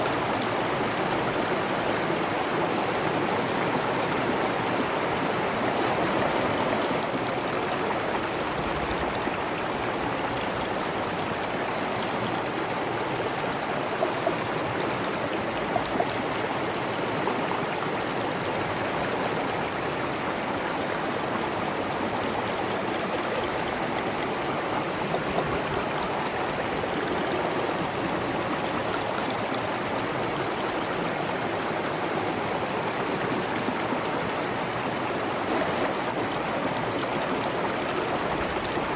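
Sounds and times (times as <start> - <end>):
water flowing: 0.0 - 38.9.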